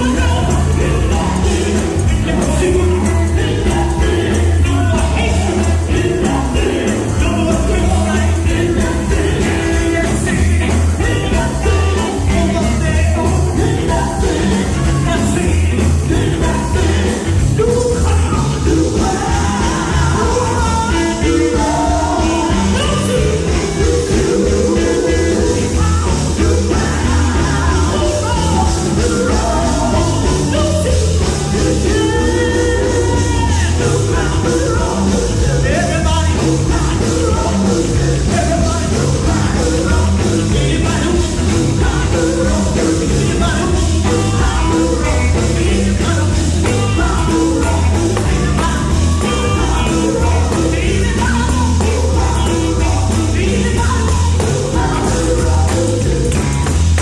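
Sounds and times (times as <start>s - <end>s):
women's vocal group singing: 0.0s - 56.6s
band with electric guitar: 0.0s - 57.0s.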